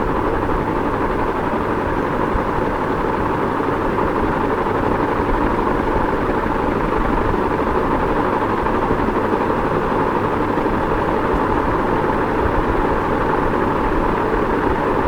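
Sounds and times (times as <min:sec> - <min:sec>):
ceiling fan whooshing hum: 0:00.0 - 0:15.0.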